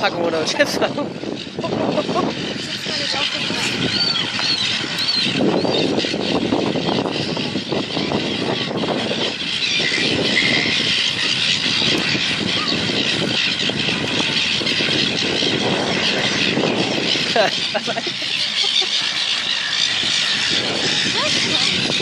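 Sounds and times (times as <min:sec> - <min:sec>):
gulls calling and squawking: 0:00.0 - 0:22.0
steady rushing noise: 0:00.0 - 0:22.0.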